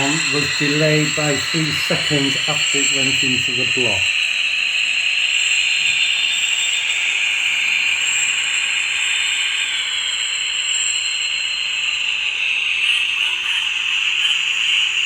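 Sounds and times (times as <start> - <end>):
model train whirring hiss: 0.0 - 15.0.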